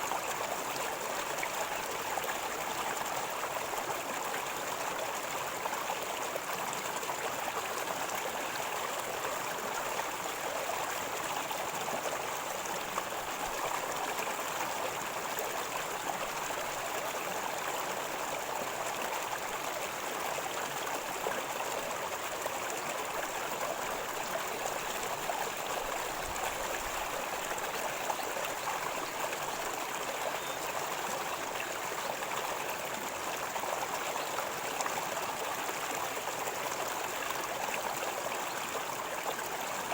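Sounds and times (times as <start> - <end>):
river water gurgling: 0.0 - 39.9.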